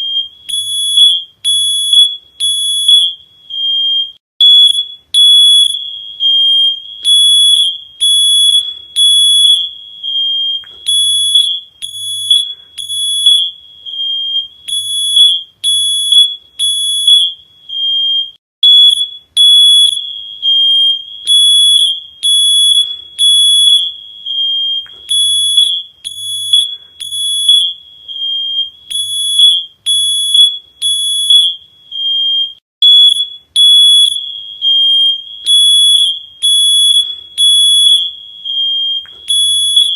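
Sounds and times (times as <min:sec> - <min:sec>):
shrill electronic alarm beeping: 0:00.0 - 0:39.9.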